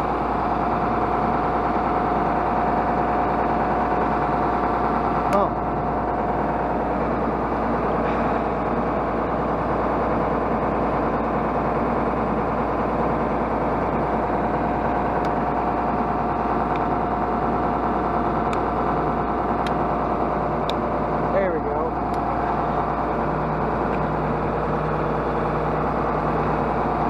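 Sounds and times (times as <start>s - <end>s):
constant whine: 0.0s - 27.0s
tractor diesel engine running: 0.0s - 27.0s.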